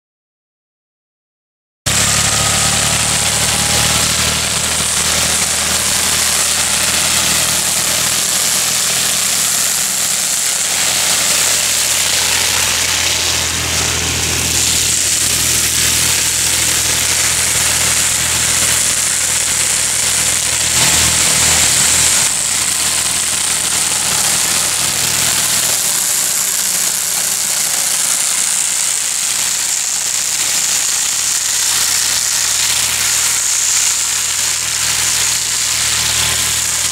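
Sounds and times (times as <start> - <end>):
rotary weeder churning soil: 1.9 - 36.9
tractor engine under load: 1.9 - 36.9.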